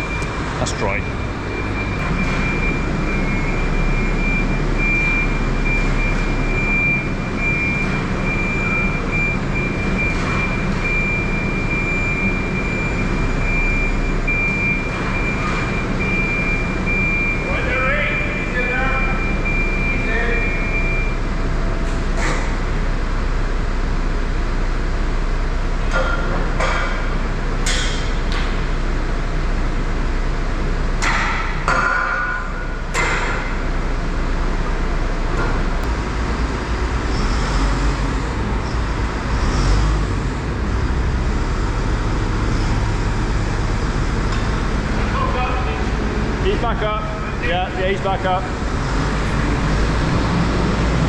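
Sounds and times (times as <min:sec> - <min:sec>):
farm vehicle engine running: 0:00.0 - 0:51.0.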